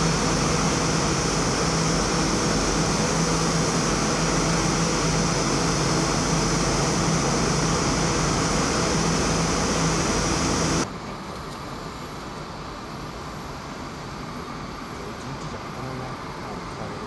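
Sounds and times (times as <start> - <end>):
mechanical drone with hiss: 0.0 - 17.0.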